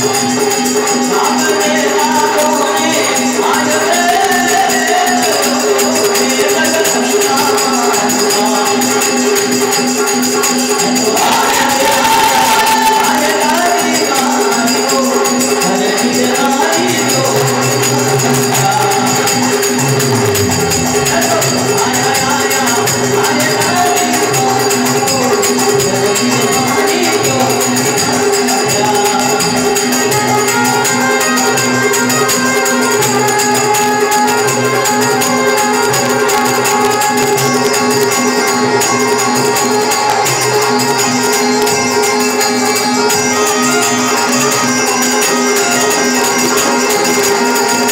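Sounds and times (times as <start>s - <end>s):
dholak drum: 0.0s - 47.9s
harmonium and keyboard: 0.0s - 47.9s
jingling hand percussion: 0.0s - 47.9s.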